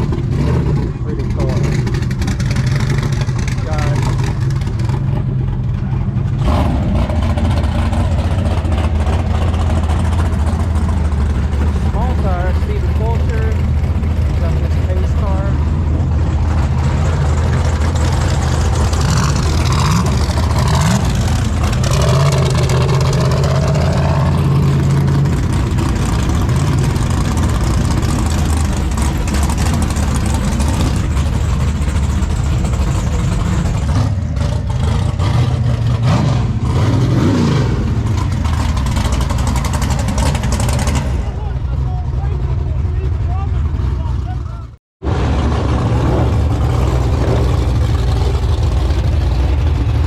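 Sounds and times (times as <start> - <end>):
engine revs: 0.0 - 50.0
race car engines running loudly: 0.0 - 50.0.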